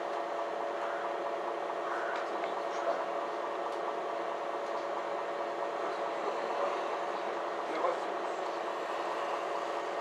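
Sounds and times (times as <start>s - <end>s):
bus interior running hum: 0.0s - 10.0s.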